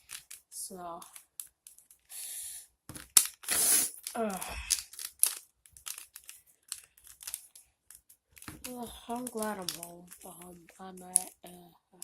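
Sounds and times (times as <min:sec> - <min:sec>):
puzzle cube clicking and scraping: 0:00.0 - 0:11.6.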